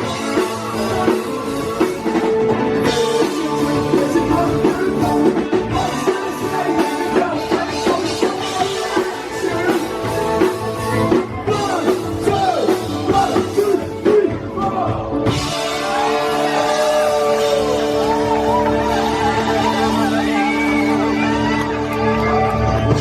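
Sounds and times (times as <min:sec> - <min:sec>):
rock band playing live: 0:00.0 - 0:23.0.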